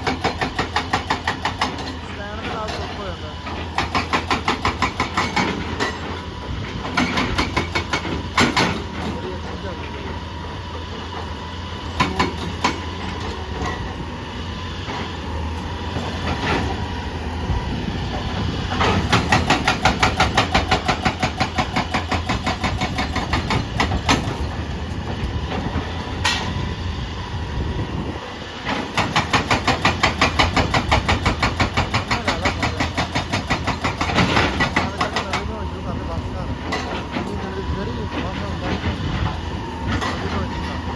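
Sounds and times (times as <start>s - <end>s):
hydraulic rock breaker hammering: 0.0s - 26.8s, 28.6s - 40.9s
diesel engine running: 0.0s - 40.9s.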